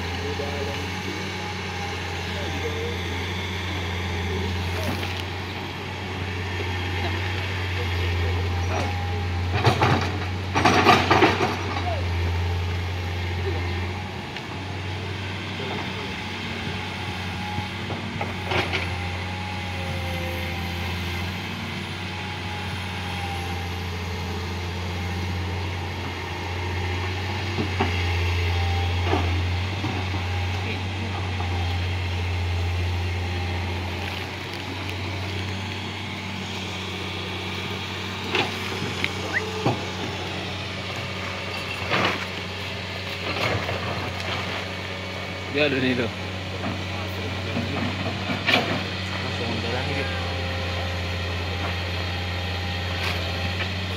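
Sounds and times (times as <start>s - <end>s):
diesel machinery droning: 0.0s - 53.9s.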